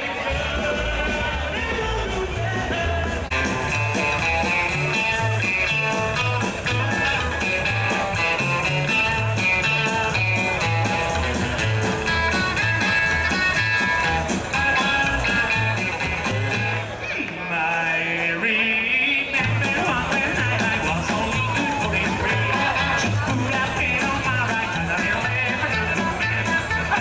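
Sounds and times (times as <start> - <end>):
rockabilly music: 0.0 - 27.0.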